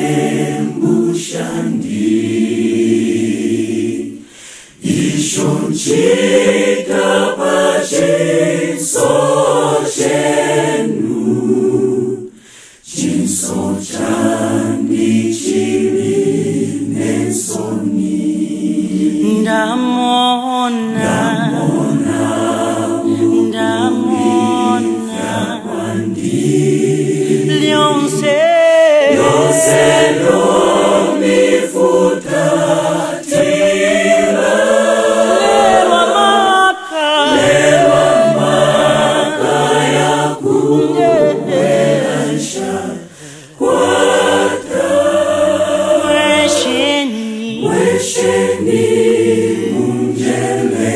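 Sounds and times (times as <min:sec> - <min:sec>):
choir singing a cappella: 0:00.0 - 0:50.9.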